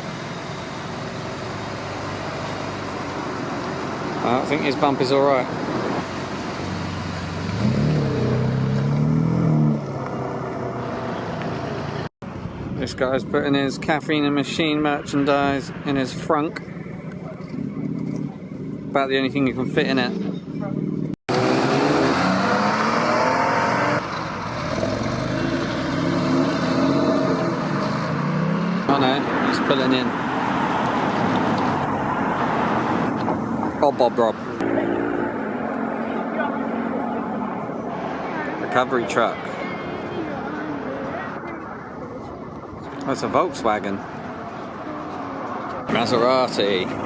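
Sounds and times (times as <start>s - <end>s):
car engine pulling away: 0.0s - 12.1s, 20.8s - 47.0s
background traffic noise: 0.0s - 47.0s.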